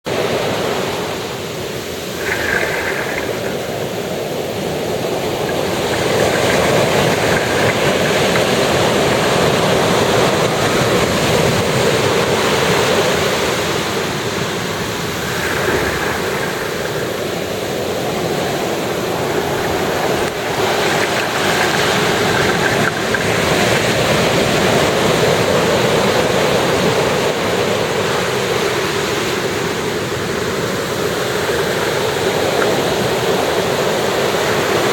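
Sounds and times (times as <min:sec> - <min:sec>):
ocean waves breaking on shore: 0:00.1 - 0:34.9.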